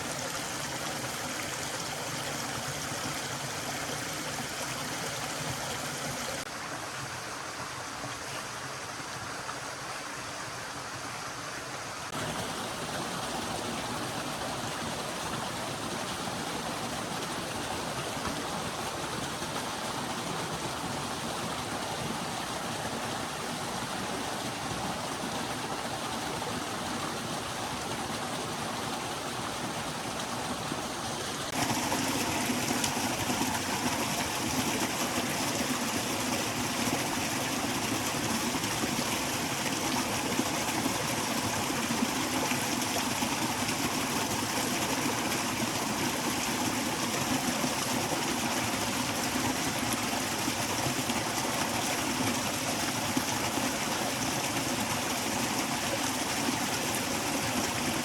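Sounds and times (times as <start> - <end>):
forest stream running: 0.0 - 58.0.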